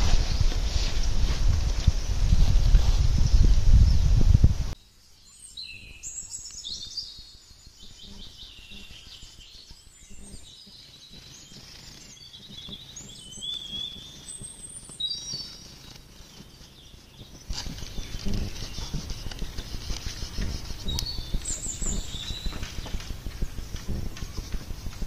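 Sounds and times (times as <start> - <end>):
birds singing and chirping: 4.8 - 25.0.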